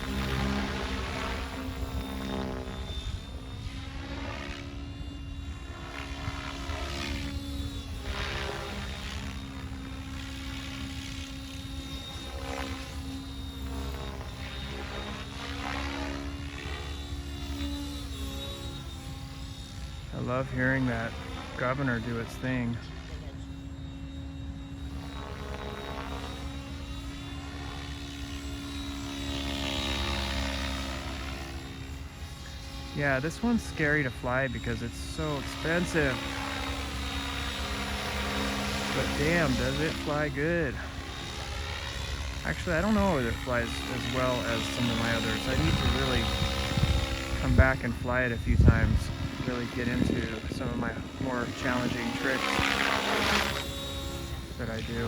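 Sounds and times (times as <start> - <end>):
rc helicopter rotor and motor: 0.0 - 55.0
whooshing of moving helicopter: 0.0 - 55.0.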